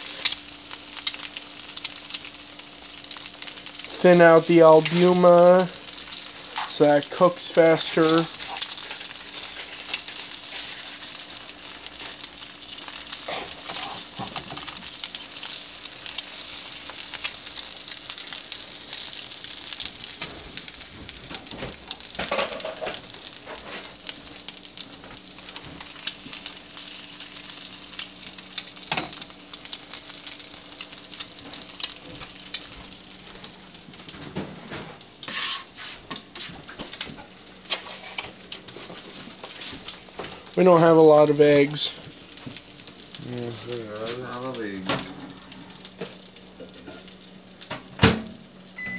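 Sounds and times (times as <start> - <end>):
eggs sizzling in grease: 0.0 - 48.9.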